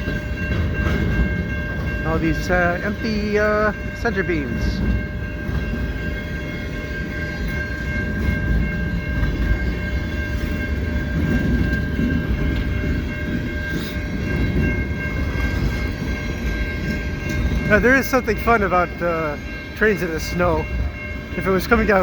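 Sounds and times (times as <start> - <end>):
faint clacks of train wheels: 0.0 - 22.0
freight train wheels rumbling on rail: 0.0 - 22.0.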